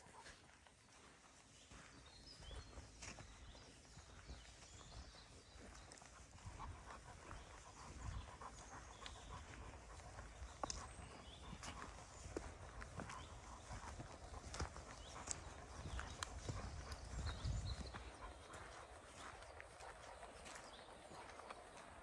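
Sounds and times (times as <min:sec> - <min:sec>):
footsteps on dirt trail: 0:00.0 - 0:22.0.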